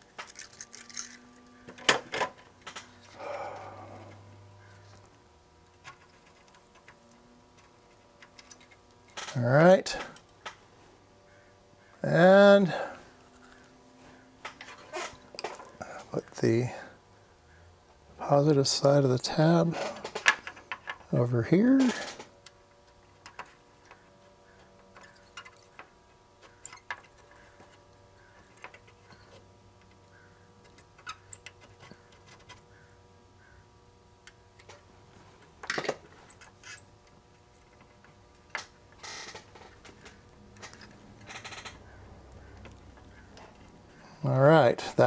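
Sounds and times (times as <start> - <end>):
faint electrical hum: 0.0 - 45.0.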